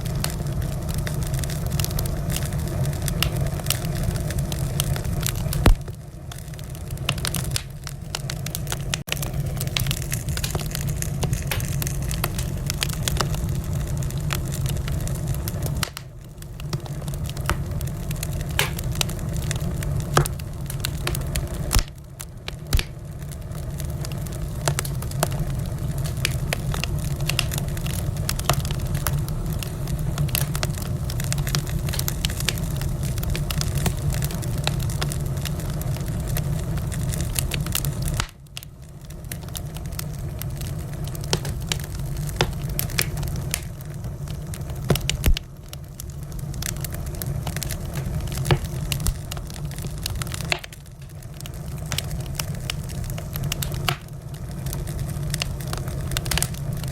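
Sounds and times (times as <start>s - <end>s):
fireplace fire crackling and popping: 0.0s - 56.9s
low rumble of burning: 0.0s - 56.9s.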